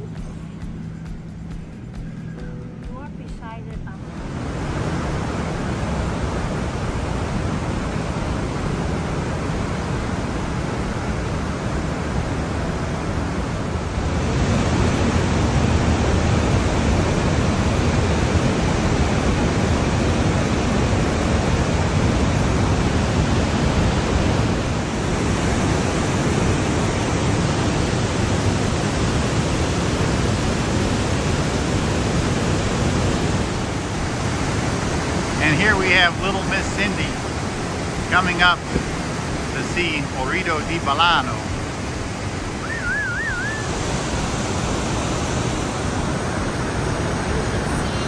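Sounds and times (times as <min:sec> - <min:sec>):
water rushing through gorge: 0:04.0 - 0:48.0.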